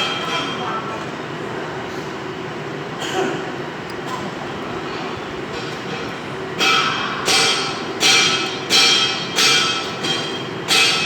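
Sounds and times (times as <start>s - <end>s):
workshop background noise: 0.0s - 11.0s.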